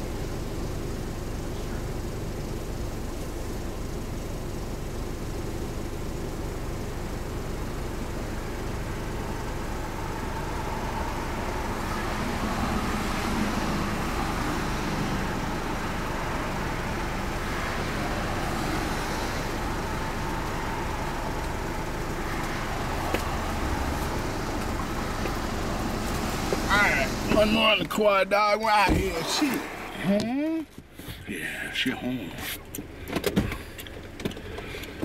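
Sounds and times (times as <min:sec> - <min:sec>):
car engine: 0:00.0 - 0:35.0
road noise: 0:00.0 - 0:35.0.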